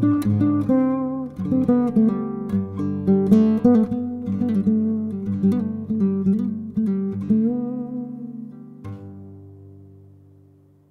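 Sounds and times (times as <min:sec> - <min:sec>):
classical guitar plucked notes: 0:00.0 - 0:10.9.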